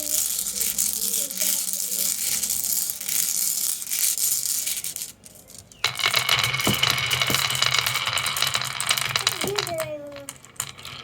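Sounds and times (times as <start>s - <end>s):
marbles rattling down plastic track: 0.0s - 11.0s.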